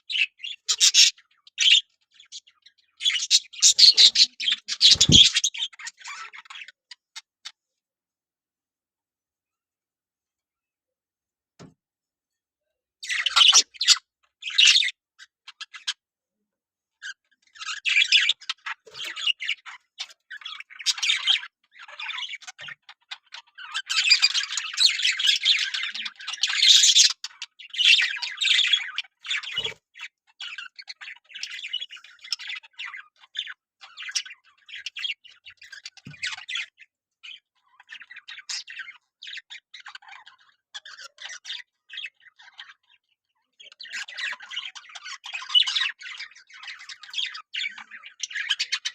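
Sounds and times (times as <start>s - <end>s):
budgerigars chattering and squawking: 0.1s - 7.3s, 13.0s - 16.0s, 17.0s - 43.0s, 43.6s - 48.9s.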